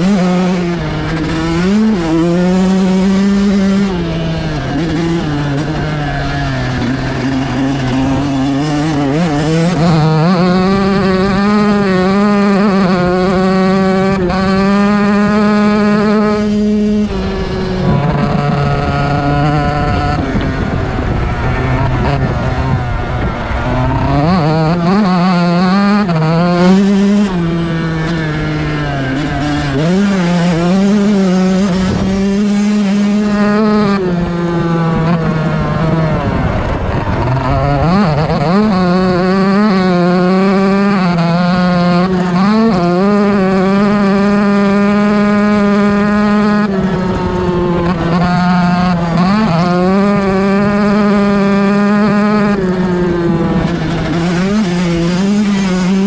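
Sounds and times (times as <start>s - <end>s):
dirt bike engine revving high: 0.0s - 56.0s.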